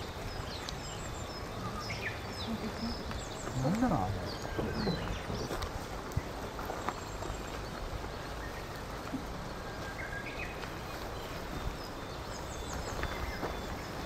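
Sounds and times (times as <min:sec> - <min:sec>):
faint bird chirp: 0:00.0 - 0:14.0
outdoor background hiss: 0:00.0 - 0:14.0.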